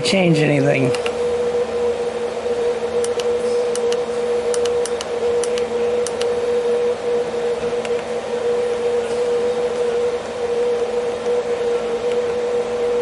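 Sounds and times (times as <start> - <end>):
steady hum with pitched tone: 0.0 - 13.0.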